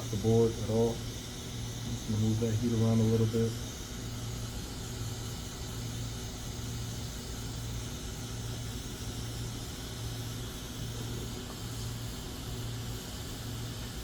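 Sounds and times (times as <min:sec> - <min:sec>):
hot air blower hissing: 0:00.0 - 0:14.0.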